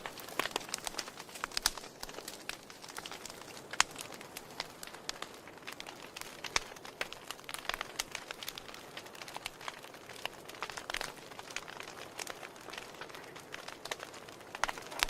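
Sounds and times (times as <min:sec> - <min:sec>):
logs crackling in fire: 0:00.0 - 0:15.0.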